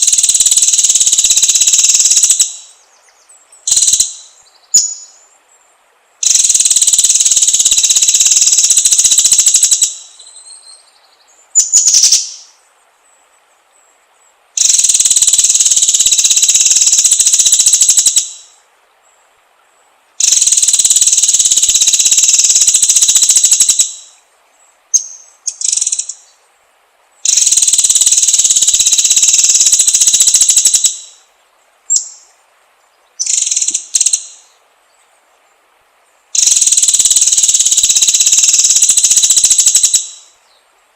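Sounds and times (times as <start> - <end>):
songbird high-pitched trills: 0.0 - 19.3, 20.2 - 26.4, 27.2 - 35.1, 36.3 - 40.7.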